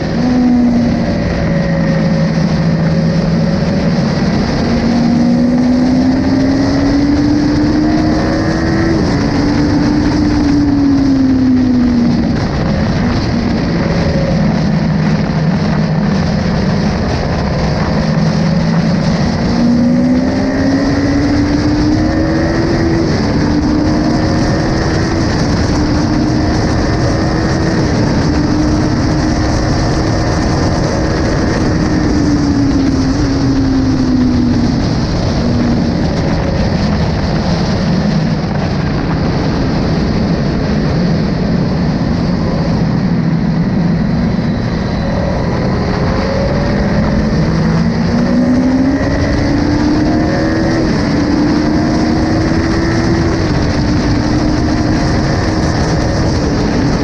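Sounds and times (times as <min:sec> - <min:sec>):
motorcycle engine at high revs: 0:00.0 - 0:57.0
wind rush on microphone: 0:00.0 - 0:57.0.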